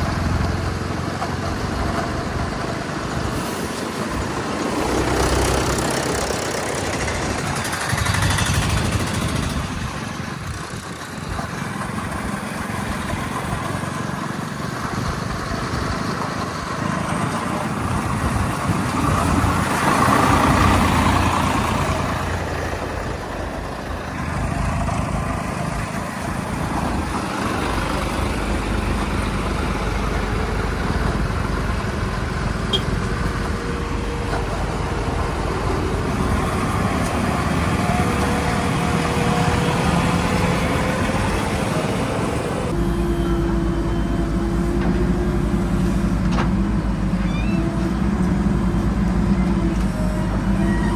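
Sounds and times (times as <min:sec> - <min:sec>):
vehicle engines running: 0:00.0 - 0:50.9.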